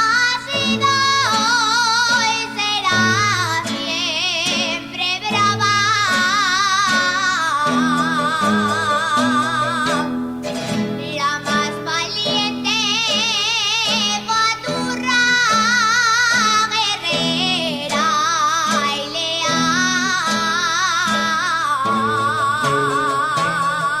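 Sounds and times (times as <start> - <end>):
plucked guitar accompaniment: 0.0 - 24.0
woman singing with vibrato: 0.0 - 24.0.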